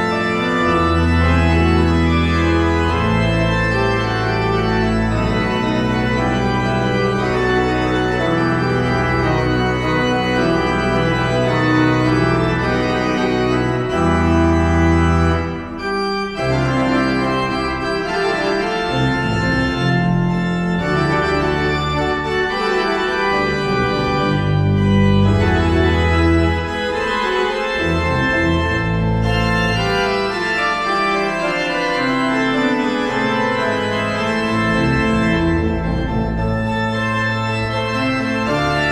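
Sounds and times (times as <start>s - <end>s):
organ playing chords: 0.0s - 38.9s.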